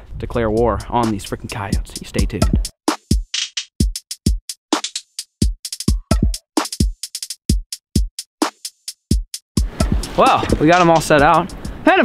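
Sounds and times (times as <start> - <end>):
drum machine beat: 0.4 - 12.0.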